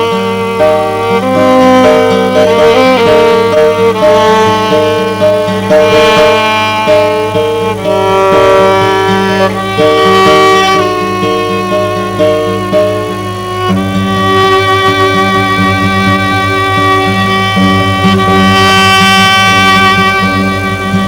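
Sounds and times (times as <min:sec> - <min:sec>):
guitar accompaniment: 0:00.0 - 0:21.0
violin melody: 0:00.0 - 0:21.0.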